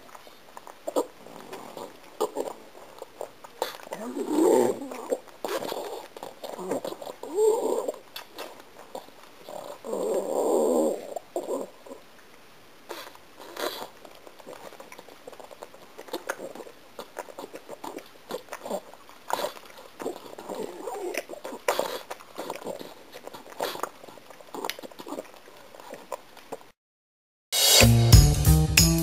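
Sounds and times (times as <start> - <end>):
dog chewing wet smacks: 0.0 - 9.9, 12.2 - 26.7.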